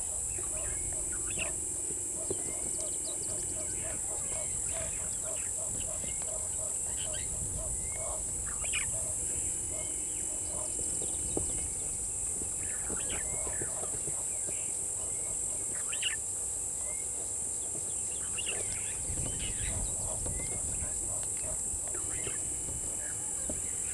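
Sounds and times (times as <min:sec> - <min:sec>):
high-pitched drone: 0:00.0 - 0:23.9
bird chirps and calls: 0:00.3 - 0:01.6, 0:02.2 - 0:11.9, 0:12.6 - 0:16.2, 0:16.8 - 0:22.4.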